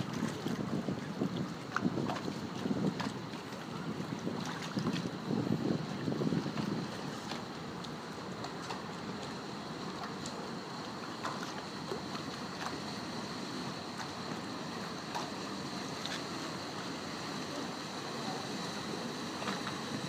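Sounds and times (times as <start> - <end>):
boat motor: 0.0 - 20.0
water noise: 0.0 - 20.0.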